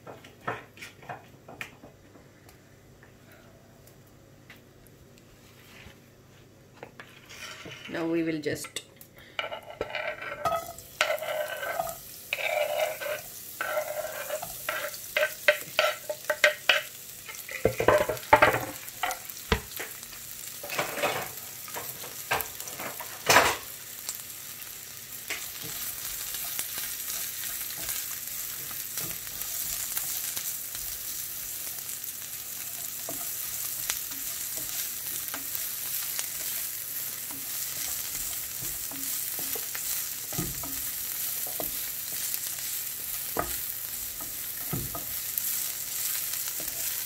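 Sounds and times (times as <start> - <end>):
onion and garlic sizzling in pan: 9.3 - 47.0.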